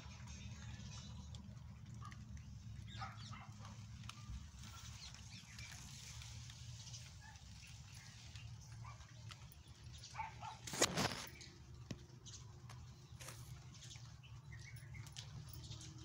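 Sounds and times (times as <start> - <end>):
leaves rustling: 0.5 - 16.0.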